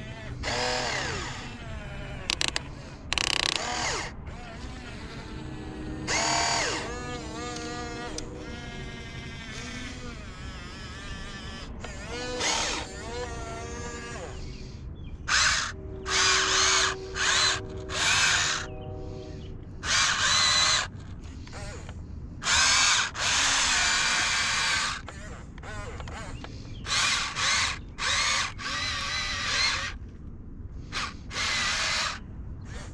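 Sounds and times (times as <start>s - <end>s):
electric gear motors whining: 0.0s - 30.1s, 30.8s - 32.9s.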